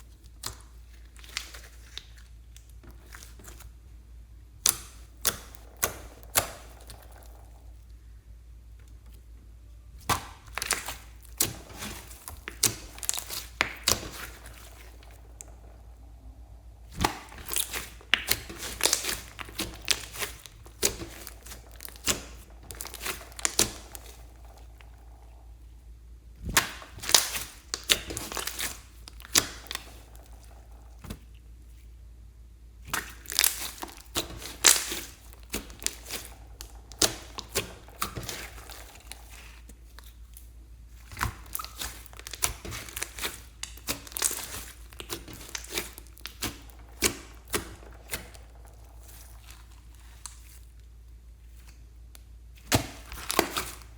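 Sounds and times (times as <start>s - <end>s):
slime crackling and popping: 0.0s - 3.8s, 4.6s - 7.9s, 10.0s - 25.8s, 26.4s - 31.4s, 32.8s - 53.9s.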